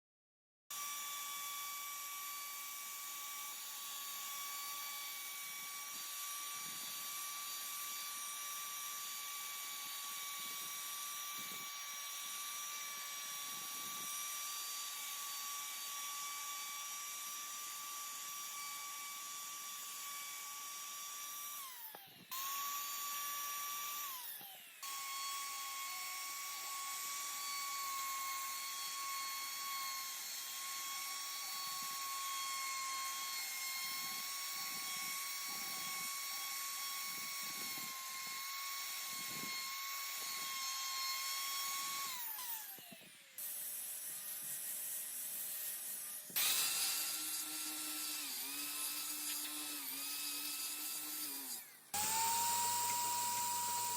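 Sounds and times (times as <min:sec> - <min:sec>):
lower-pitched tool whine: 0:00.7 - 0:53.9
rotary carving tool whining: 0:00.7 - 0:53.9.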